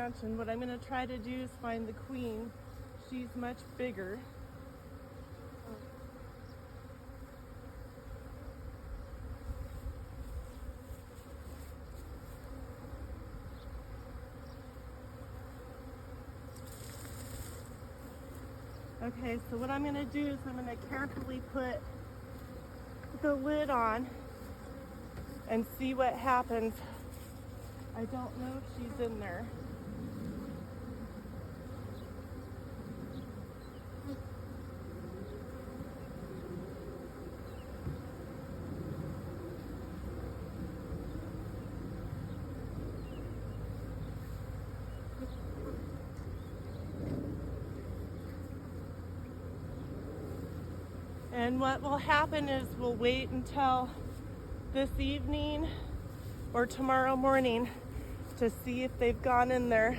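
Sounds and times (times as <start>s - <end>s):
bee swarm buzzing: 0.0s - 59.9s.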